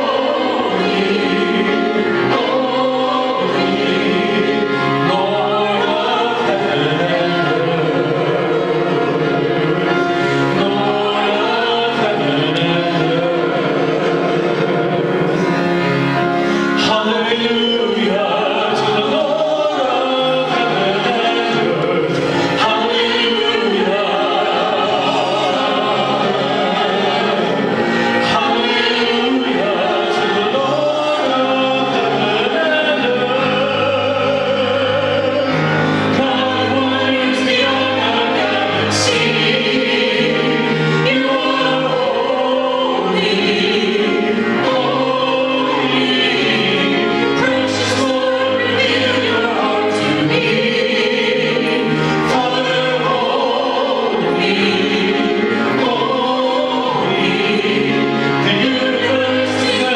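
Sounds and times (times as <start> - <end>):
choir singing a hymn: 0.0 - 59.9
instrumental accompaniment: 0.0 - 59.9.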